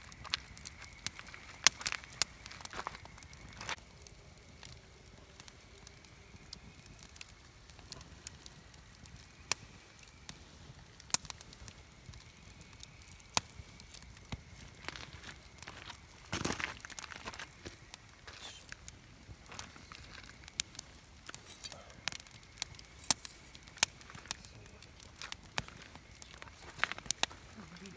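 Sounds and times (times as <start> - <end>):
campfire crackling and popping: 0.0 - 27.9
faint high whine: 0.0 - 27.9.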